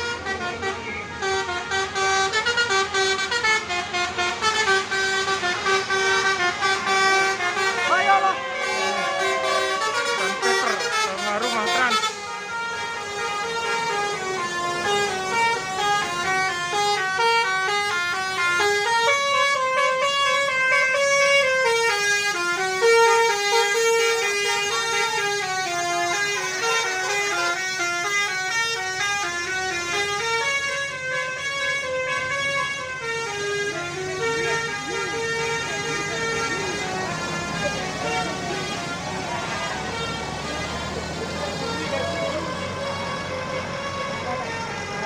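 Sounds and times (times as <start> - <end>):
musical air horn playing a tune: 0.0 - 45.0.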